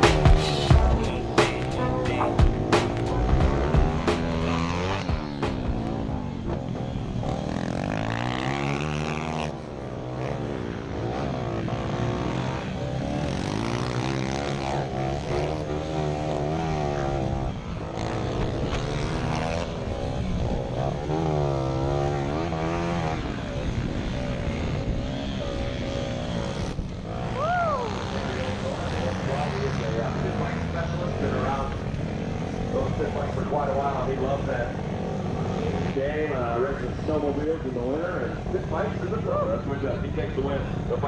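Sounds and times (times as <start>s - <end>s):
pit bike engines racing: 0.0s - 41.0s.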